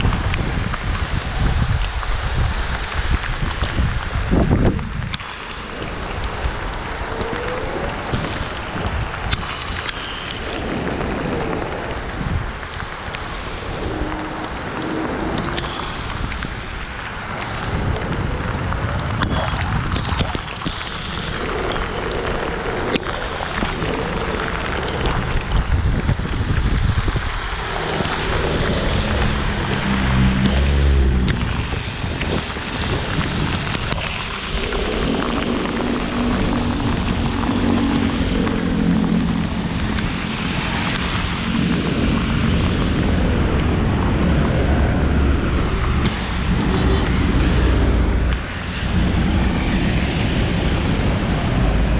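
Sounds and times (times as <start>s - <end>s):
heavy rain: 0.0s - 51.9s
passing traffic hum: 0.0s - 51.9s
tyres hissing on wet road: 0.0s - 51.9s
wind buffeting microphone: 0.0s - 51.9s.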